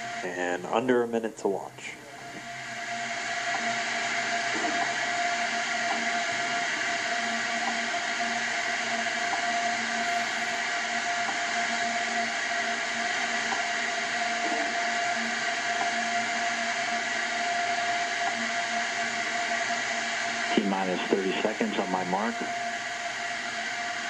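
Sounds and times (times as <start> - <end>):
audio line hiss: 0.0 - 24.0
constant hum: 0.0 - 24.0
faint whine tones: 0.0 - 24.0.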